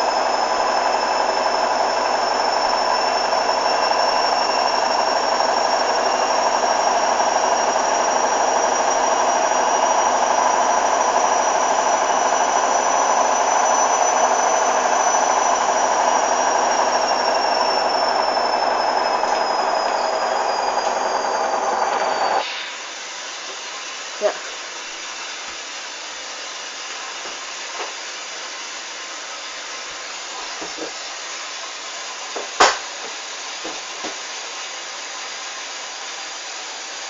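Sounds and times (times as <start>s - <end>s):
washing machine running: 0.0s - 37.0s.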